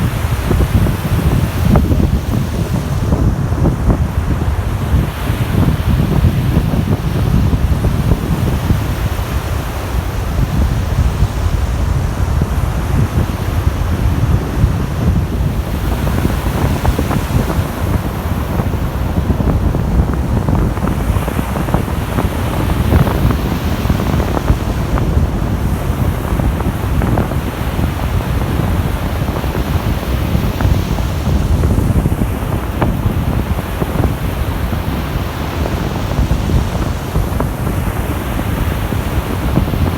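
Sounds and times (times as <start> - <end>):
waves breaking: 0.0 - 39.9
wind buffeting microphone: 0.0 - 39.9.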